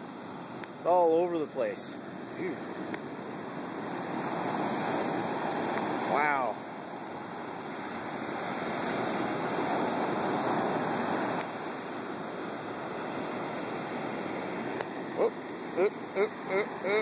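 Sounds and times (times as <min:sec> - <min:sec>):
waves washing up beach: 0:00.0 - 0:17.0.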